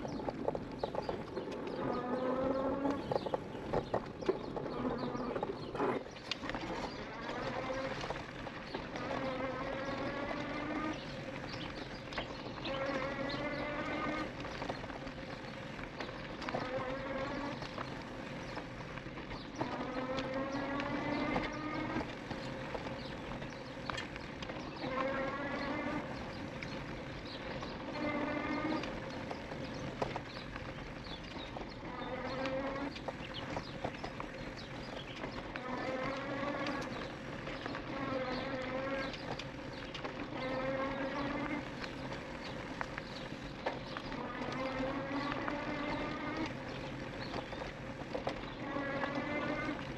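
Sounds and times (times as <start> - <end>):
e-bike motor whining: 0.0 - 49.9
tyre noise on dirt: 0.0 - 49.9.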